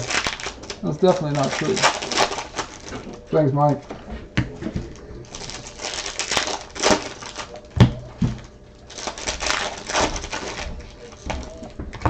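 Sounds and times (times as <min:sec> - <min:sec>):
crinkly wrapper: 0:00.0 - 0:03.9, 0:04.8 - 0:12.0.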